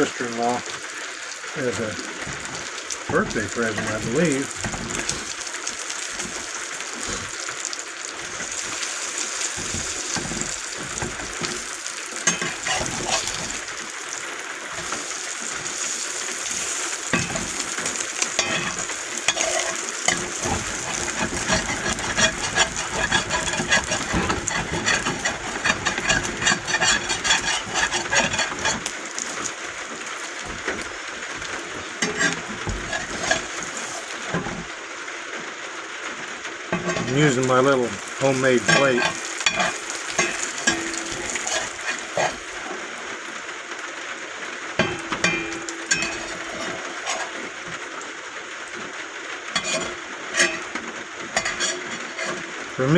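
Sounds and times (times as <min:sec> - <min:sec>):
bacon grease sizzling and popping: 0:00.0 - 0:52.9.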